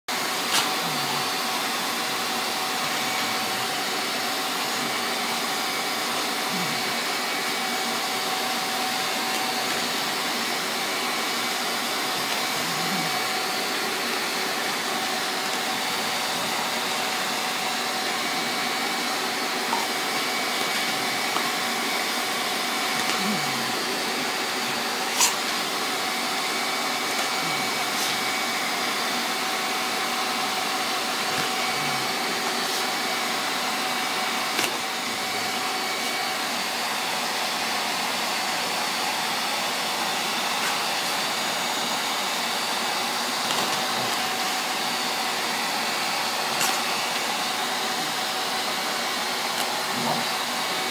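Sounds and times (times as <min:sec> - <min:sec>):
shop vac motor running: 0:00.1 - 0:50.9.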